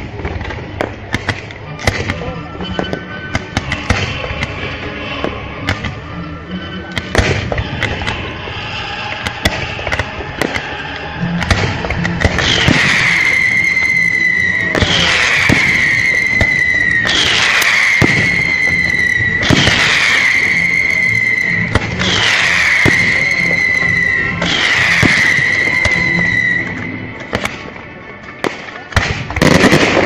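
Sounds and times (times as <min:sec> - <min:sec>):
fireworks bursting with bangs: 0:00.0 - 0:06.1, 0:06.9 - 0:30.0
show music: 0:00.2 - 0:30.0.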